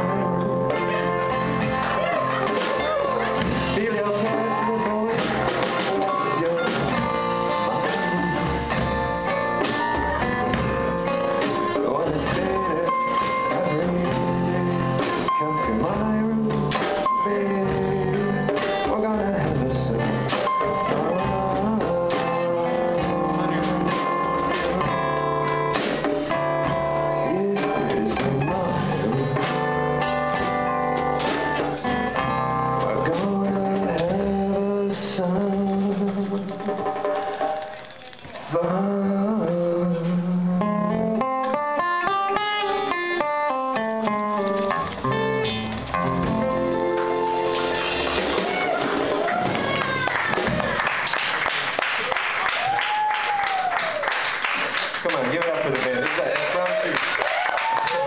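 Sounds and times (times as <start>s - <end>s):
acoustic guitar: 0.0s - 58.0s
drums: 0.0s - 58.0s.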